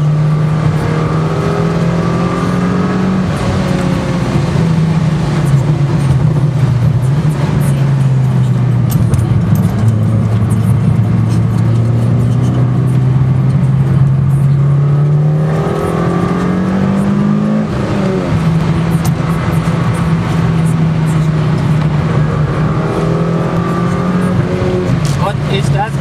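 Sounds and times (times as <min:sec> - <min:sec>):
car engine under load: 0:00.0 - 0:26.0.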